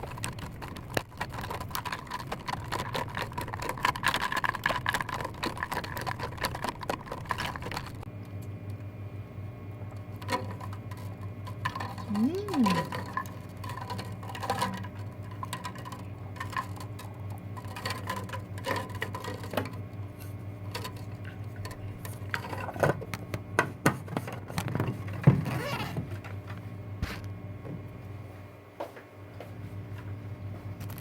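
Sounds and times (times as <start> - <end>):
steady low hum: 5.2 - 31.0.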